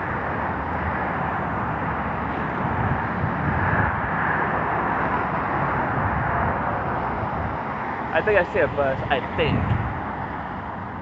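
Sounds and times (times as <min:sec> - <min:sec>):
rushing wind of snowstorm: 0:00.0 - 0:11.0
wind buffeting microphone: 0:00.0 - 0:11.0.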